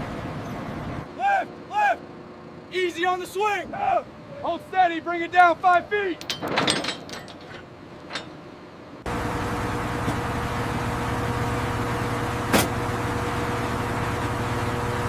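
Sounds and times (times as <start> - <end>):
heavy engine droning: 0.0 - 15.0.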